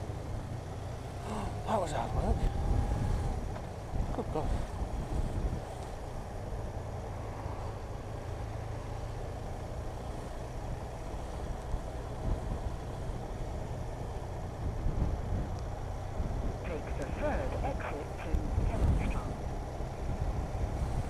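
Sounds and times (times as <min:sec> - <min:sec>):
motorcycle engine drone: 0:00.0 - 0:21.0
road noise: 0:00.0 - 0:21.0.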